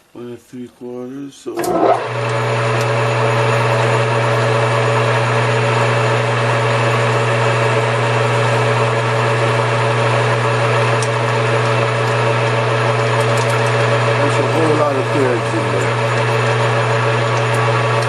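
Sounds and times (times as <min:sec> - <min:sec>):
lathe motor humming: 0:01.6 - 0:18.0.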